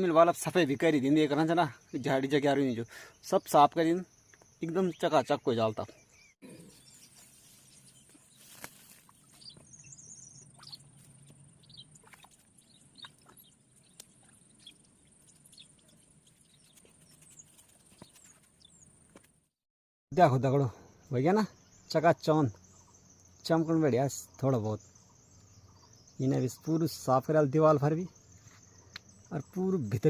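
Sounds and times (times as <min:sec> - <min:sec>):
faint bird chirps: 0:00.6 - 0:18.9, 0:20.3 - 0:30.0.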